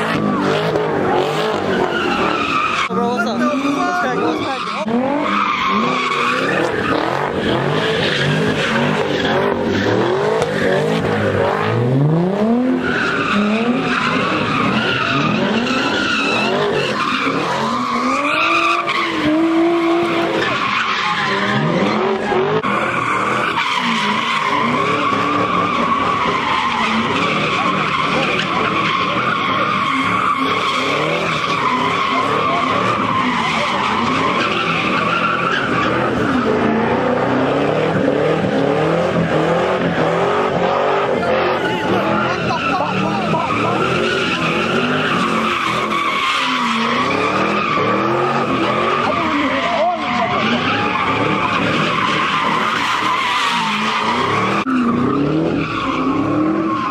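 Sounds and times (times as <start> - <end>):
tyres squealing: 0.0 - 11.9, 12.6 - 56.9
car engines revving: 0.0 - 56.9.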